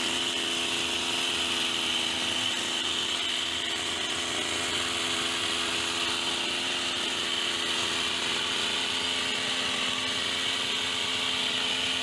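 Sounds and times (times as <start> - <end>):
hedge trimmer engine running: 0.0 - 12.0.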